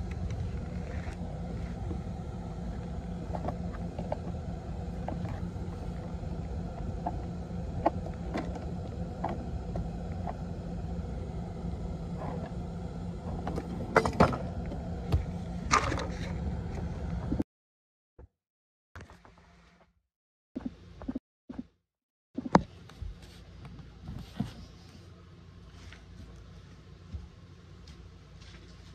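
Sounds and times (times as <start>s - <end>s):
steady low hum: 0.0s - 17.4s, 22.4s - 28.9s.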